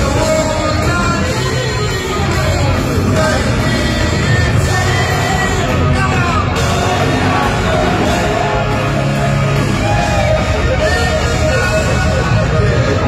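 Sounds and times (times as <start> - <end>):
drums: 0.0 - 13.0
electric guitar: 0.0 - 13.0
live heavy metal band: 0.0 - 13.0.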